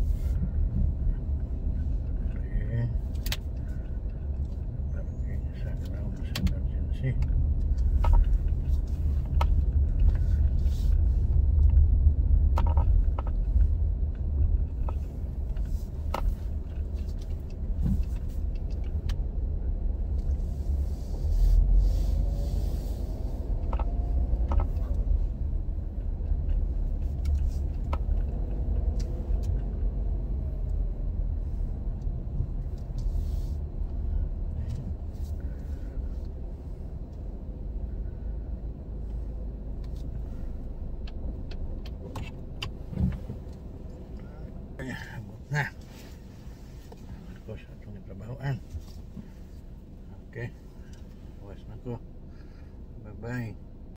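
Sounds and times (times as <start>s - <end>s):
car engine and tyres rumbling: 0.0s - 53.9s.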